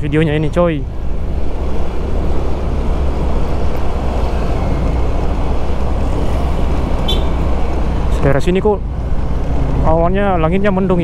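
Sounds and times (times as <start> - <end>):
motorcycle engine: 0.3 - 11.0.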